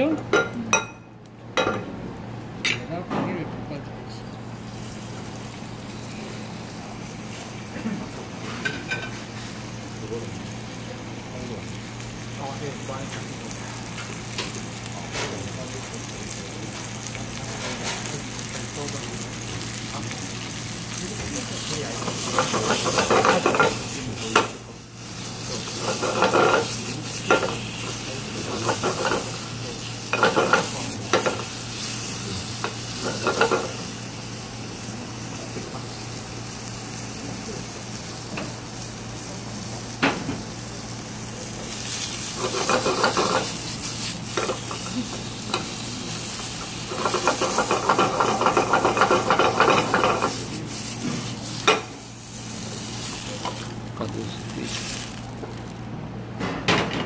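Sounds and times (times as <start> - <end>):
meat sizzling in frying pan: 4.4 - 55.9.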